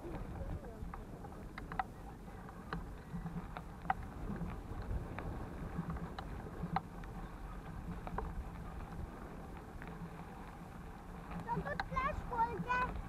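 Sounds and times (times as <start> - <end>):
bicycles rolling on dirt path: 0.0 - 13.0
small clicks and rattles: 0.0 - 13.0.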